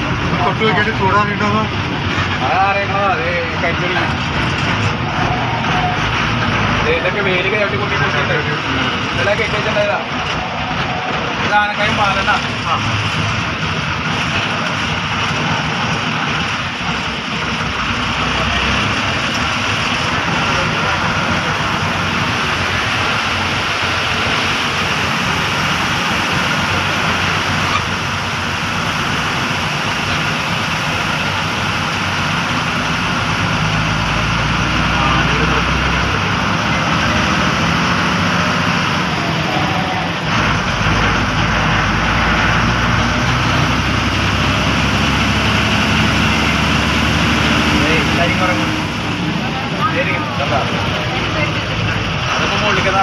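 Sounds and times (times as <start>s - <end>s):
bus diesel engine drone: 0.0s - 53.0s
road noise: 0.0s - 53.0s.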